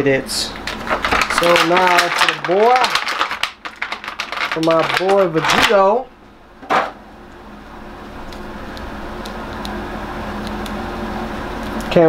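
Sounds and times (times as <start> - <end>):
machine hum with low drone: 0.0 - 12.0.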